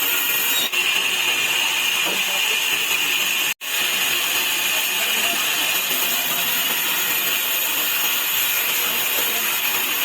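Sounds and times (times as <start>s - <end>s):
saw cutting wood: 0.0s - 10.0s.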